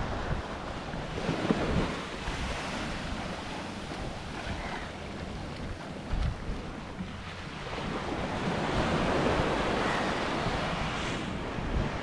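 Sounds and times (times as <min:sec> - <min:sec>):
small waves washing onto sand: 0:00.0 - 0:12.0
wind buffeting microphone: 0:00.0 - 0:12.0.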